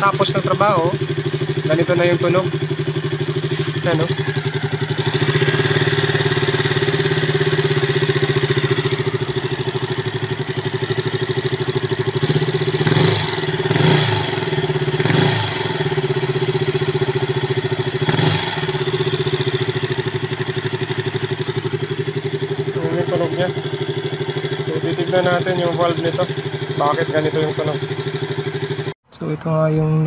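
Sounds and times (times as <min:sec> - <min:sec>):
motorcycle engine idling with ticking: 0:00.0 - 0:29.0
motorcycle engine revving: 0:00.0 - 0:29.0.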